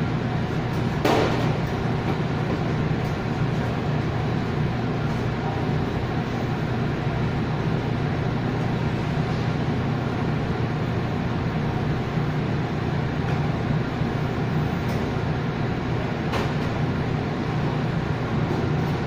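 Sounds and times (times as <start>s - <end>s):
machinery hum and rumble: 0.0s - 19.0s.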